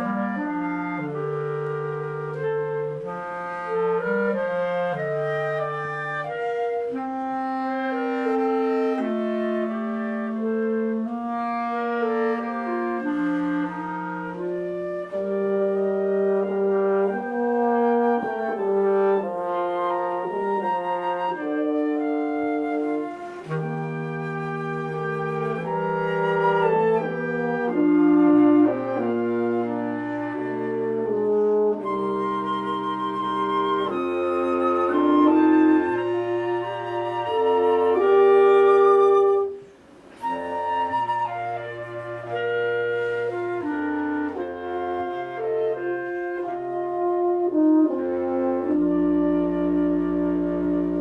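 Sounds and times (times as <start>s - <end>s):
wind band playing held chords: 0.0s - 51.0s.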